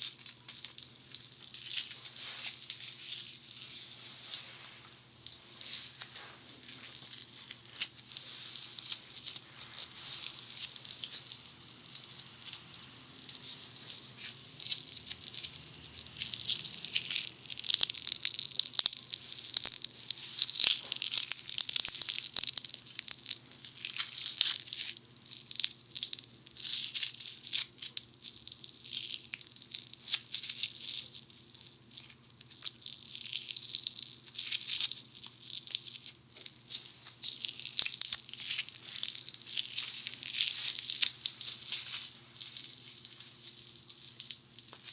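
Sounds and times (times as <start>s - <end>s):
foam clay crackling and crunching: 0.0s - 44.9s.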